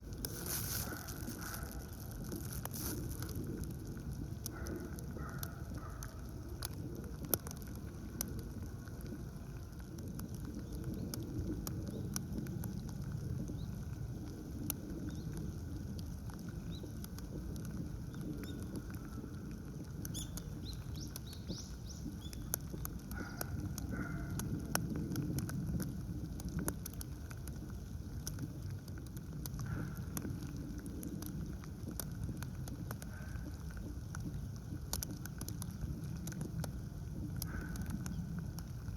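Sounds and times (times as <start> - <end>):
steady low rumble: 0.0 - 38.9
small clicks and taps: 0.1 - 38.9.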